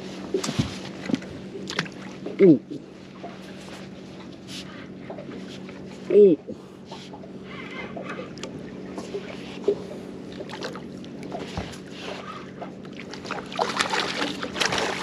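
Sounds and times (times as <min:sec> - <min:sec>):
boat low hum: 0:00.0 - 0:15.0.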